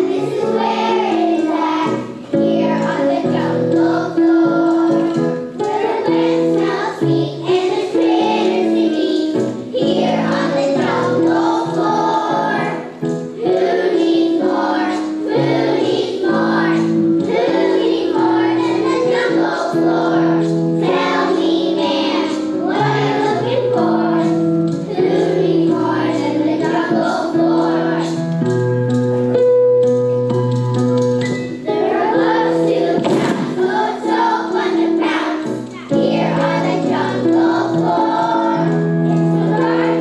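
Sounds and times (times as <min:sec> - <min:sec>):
children's choir singing: 0:00.0 - 0:29.5, 0:30.9 - 0:40.0
piano accompaniment: 0:00.0 - 0:40.0.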